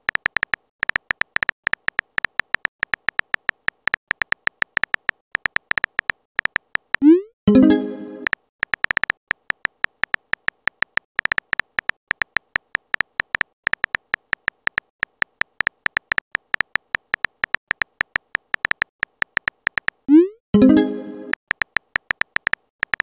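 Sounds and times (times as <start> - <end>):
phone keyboard typing taps: 0.0 - 7.2, 8.2 - 20.2, 21.3 - 23.0.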